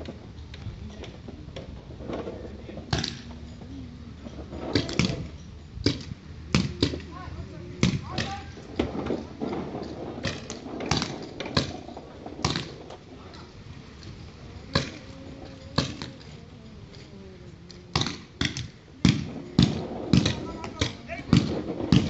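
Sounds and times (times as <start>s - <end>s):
faint voices: 0.0s - 22.0s.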